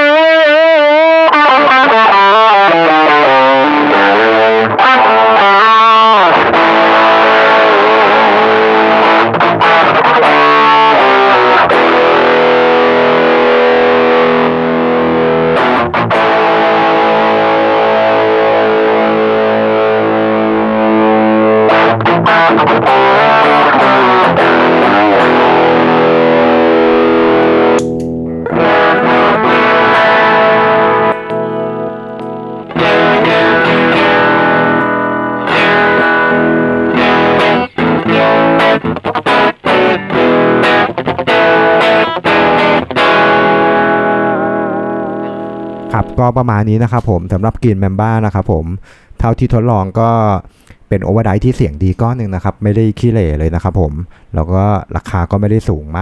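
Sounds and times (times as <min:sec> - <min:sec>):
overdriven electric guitar chords: 0:00.0 - 0:46.4.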